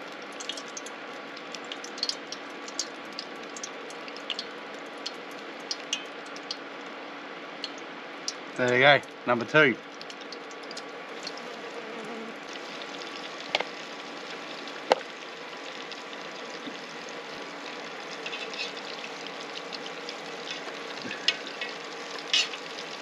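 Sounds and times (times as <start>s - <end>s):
oil bubbling and sizzling: 0.0s - 23.0s.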